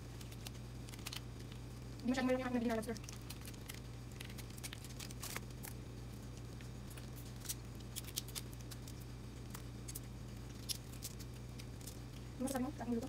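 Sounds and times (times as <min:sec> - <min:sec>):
steady low hum: 0:00.0 - 0:13.0
seafood shells cracking: 0:00.1 - 0:02.0, 0:03.0 - 0:12.3.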